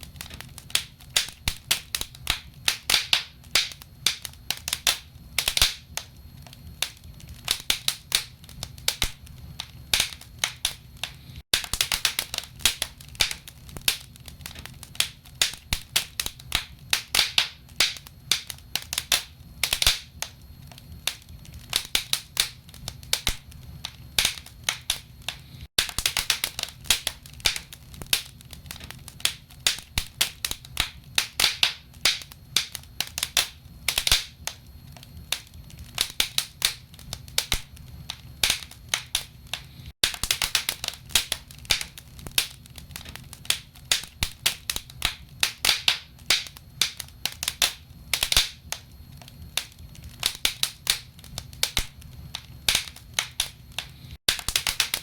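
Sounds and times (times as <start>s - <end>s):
low fire rumble: 0.0s - 55.0s
wood fire crackling: 0.0s - 55.0s.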